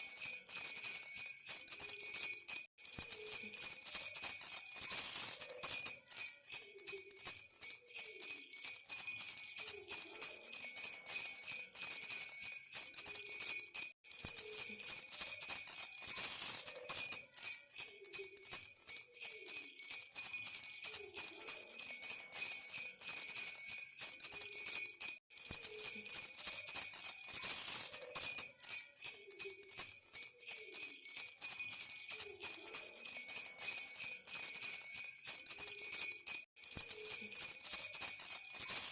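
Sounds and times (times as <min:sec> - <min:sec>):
baby rattle bells jingling: 0:00.0 - 0:38.9.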